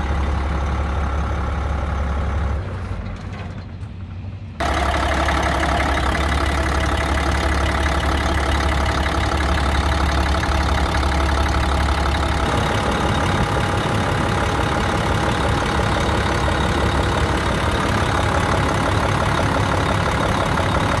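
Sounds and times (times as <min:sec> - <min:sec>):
diesel truck engine idling: 0:00.0 - 0:03.2, 0:04.4 - 0:21.0.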